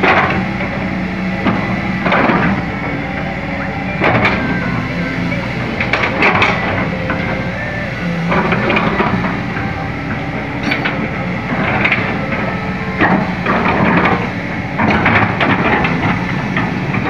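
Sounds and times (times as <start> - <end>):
excavator diesel engine drone: 0.0 - 17.0
hydraulic and clanking noise: 0.0 - 17.0.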